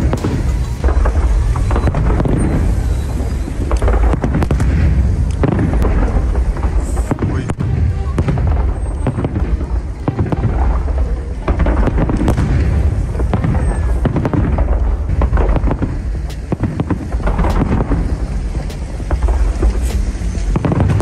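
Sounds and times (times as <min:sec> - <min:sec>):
fireworks bangs: 0:00.0 - 0:21.0
low rumble: 0:00.0 - 0:21.0.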